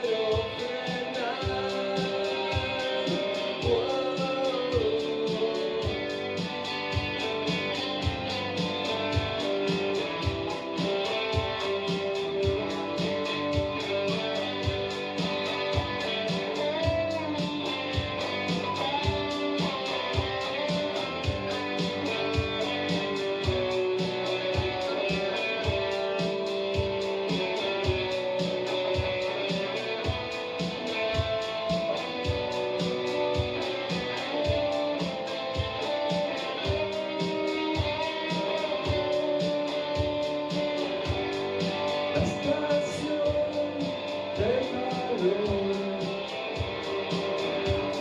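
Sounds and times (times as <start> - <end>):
electric guitar playing: 0.0 - 48.0
steady low beat: 0.0 - 48.0.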